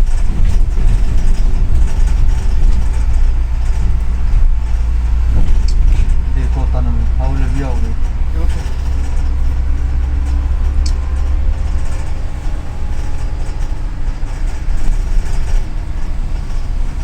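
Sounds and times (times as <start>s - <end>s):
bus engine and road rumble: 0.0s - 17.0s
faint whining tones: 0.0s - 17.0s.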